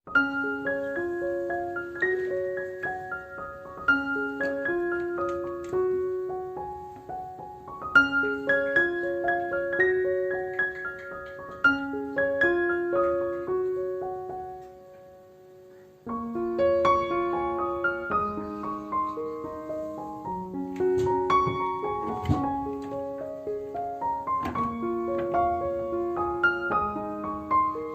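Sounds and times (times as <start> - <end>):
gentle solo piano: 0.0 - 27.9.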